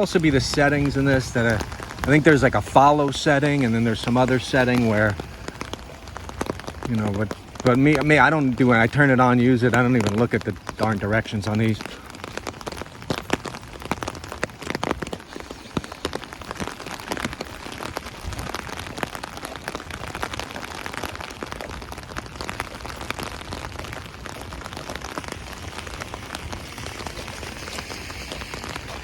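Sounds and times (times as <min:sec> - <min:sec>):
rain drumming on an umbrella: 0:00.0 - 0:29.0.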